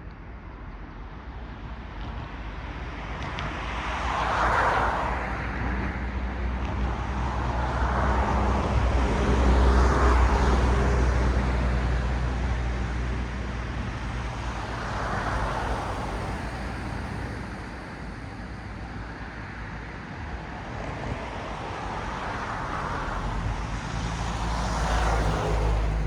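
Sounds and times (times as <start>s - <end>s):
low traffic rumble: 0.0s - 26.0s
cars passing by: 1.6s - 26.0s.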